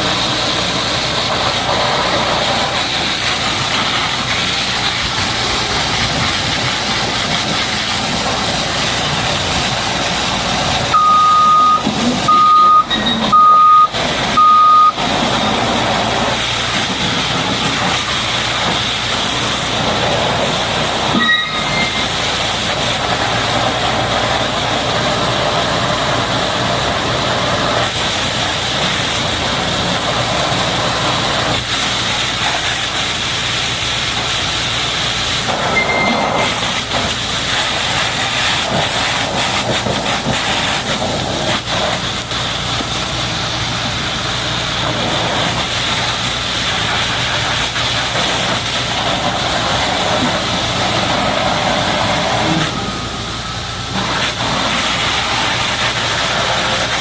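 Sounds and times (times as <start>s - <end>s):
high-pressure water jet spraying: 0.0s - 57.0s.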